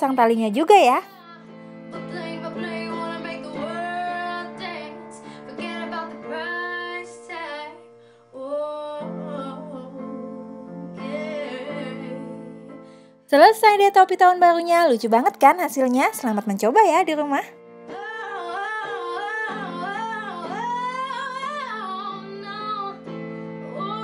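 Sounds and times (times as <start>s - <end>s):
woman singing soft tune: 0.0s - 12.7s, 17.3s - 24.0s.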